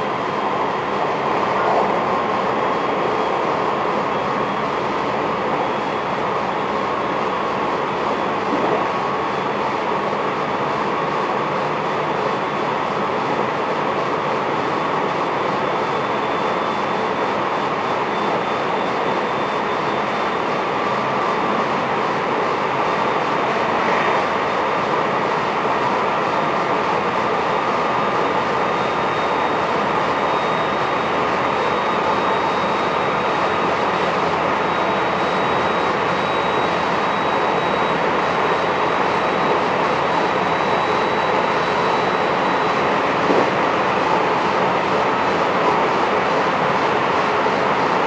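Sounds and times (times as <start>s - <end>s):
train wheels roaring on rails: 0.0s - 48.0s.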